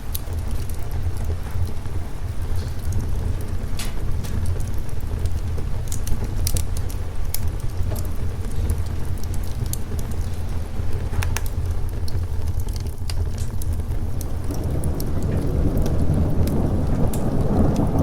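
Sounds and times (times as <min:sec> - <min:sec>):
fireplace crackling and popping: 0:00.0 - 0:18.0
low rumble: 0:00.0 - 0:18.0
rain: 0:00.0 - 0:18.0.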